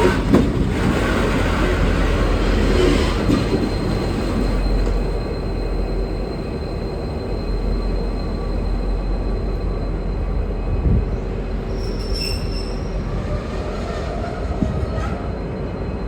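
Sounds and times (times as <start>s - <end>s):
train rumble: 0.0s - 16.0s
train wheels squealing: 0.0s - 16.0s.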